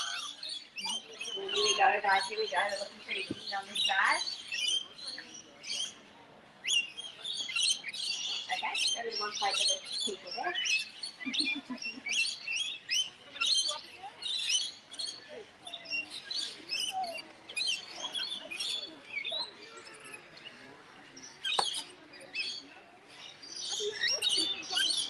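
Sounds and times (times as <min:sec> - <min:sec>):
lorikeets chattering: 0:00.0 - 0:25.0.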